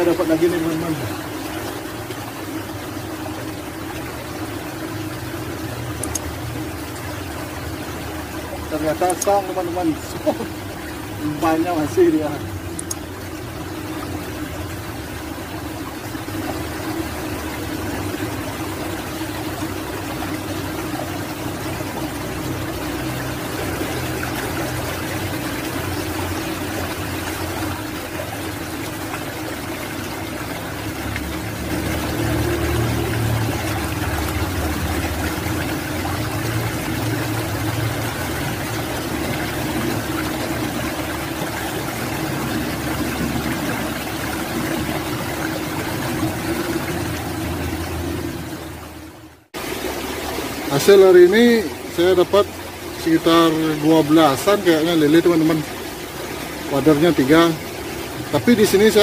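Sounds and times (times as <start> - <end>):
water rushing through culvert: 0.0 - 59.0.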